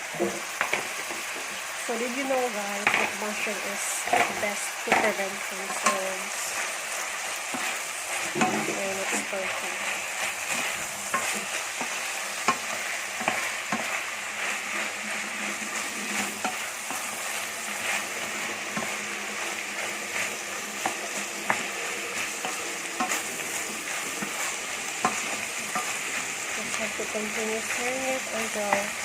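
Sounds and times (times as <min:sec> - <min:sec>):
vegetables sizzling in frying pan: 0:00.0 - 0:29.0.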